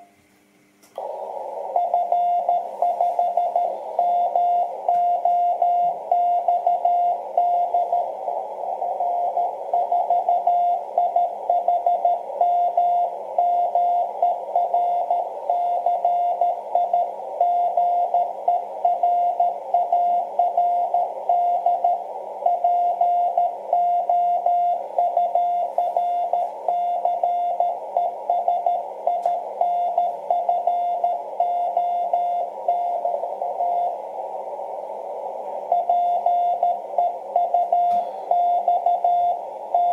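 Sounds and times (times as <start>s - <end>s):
receiver hiss: 0.0s - 39.9s
morse code tone: 1.0s - 34.1s, 35.5s - 39.9s.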